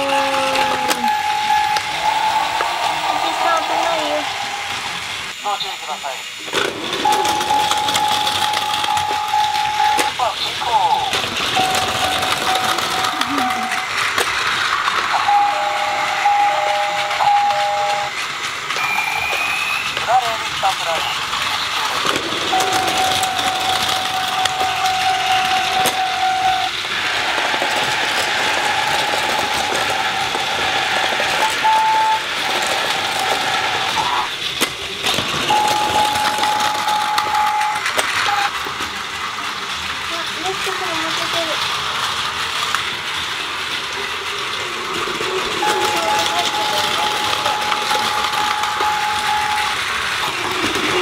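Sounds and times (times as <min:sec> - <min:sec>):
toy train motors whirring: 0:00.0 - 0:51.0.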